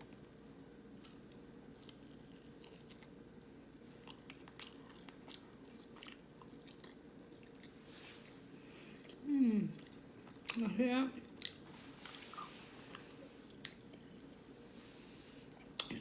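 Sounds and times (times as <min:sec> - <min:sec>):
steady low hum: 0:00.0 - 0:16.0
close chewing with crunches: 0:00.9 - 0:14.5.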